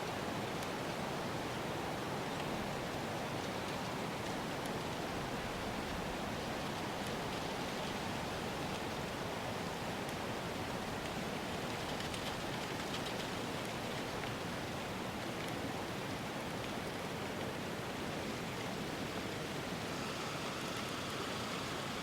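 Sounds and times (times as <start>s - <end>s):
outdoor ambience hiss: 0.0s - 22.0s.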